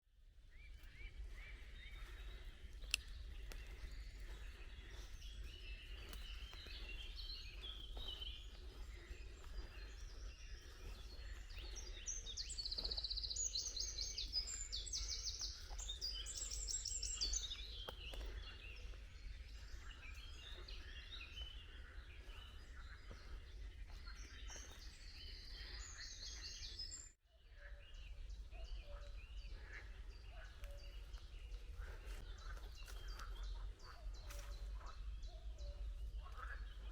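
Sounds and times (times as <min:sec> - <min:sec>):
birds chirping and trilling: 0:00.4 - 0:36.9.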